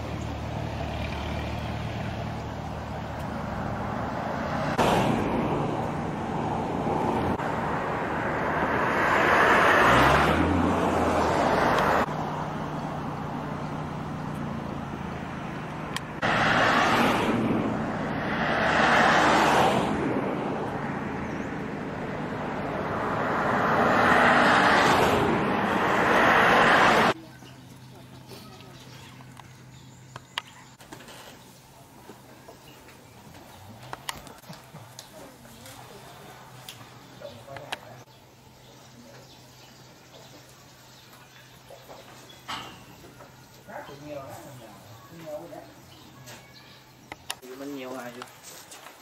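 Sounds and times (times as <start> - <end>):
cars passing: 0.0 - 30.8, 31.8 - 49.0.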